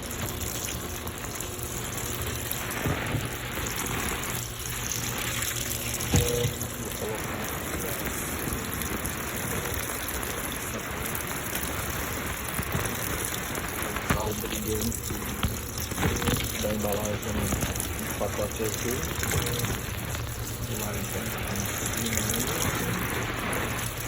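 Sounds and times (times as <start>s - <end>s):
water gushing into washing machine: 0.0s - 24.0s.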